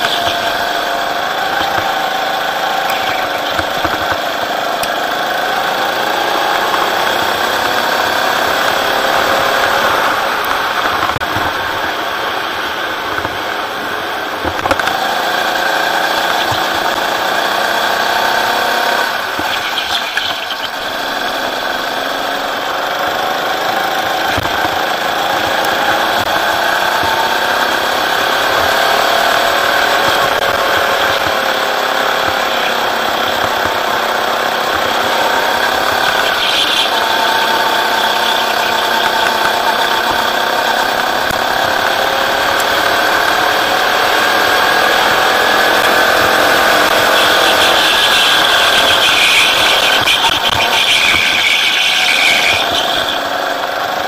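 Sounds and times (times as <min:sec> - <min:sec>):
go-kart engine revving: 0:00.0 - 0:54.0
road and wind noise: 0:00.0 - 0:54.0.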